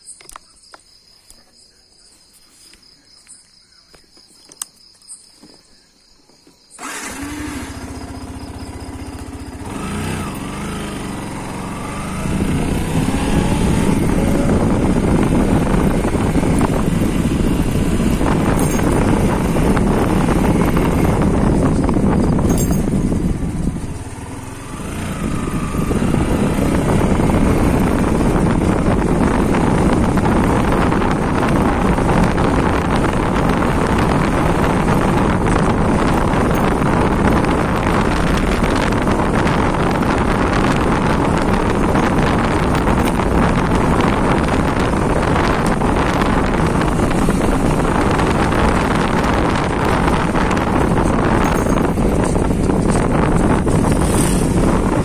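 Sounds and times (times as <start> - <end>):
motorcycle engine and tyre noise: 3.9 - 55.0
wind buffeting microphone: 6.8 - 55.0.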